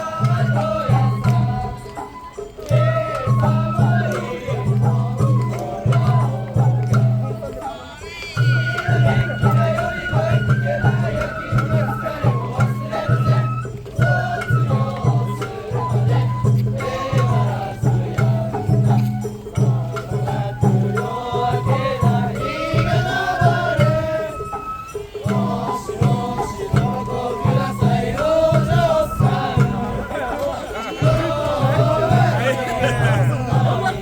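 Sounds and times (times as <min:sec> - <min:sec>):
drums steady beat: 0:00.0 - 0:34.0.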